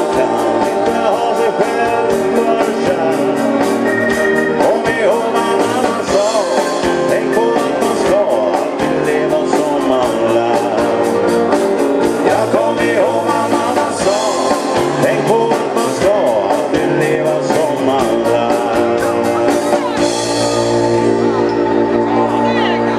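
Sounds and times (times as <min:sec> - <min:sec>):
live band playing rock and roll: 0:00.0 - 0:22.9.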